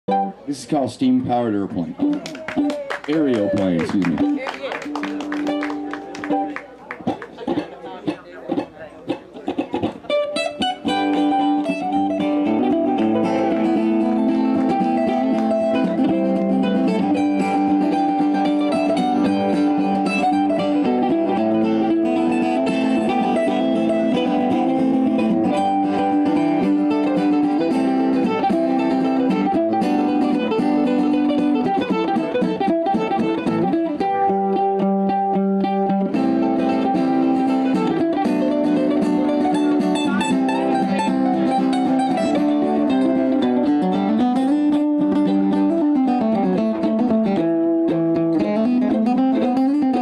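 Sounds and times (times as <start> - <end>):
mandolin: 0.1 - 50.0
strummed acoustic guitar: 3.9 - 50.0.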